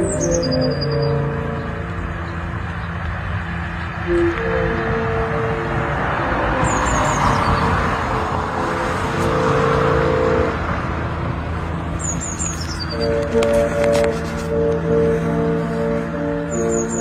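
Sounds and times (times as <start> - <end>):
ship's horn held notes: 0.0 - 2.6, 3.3 - 17.0
loud steady rushing noise: 0.0 - 17.0.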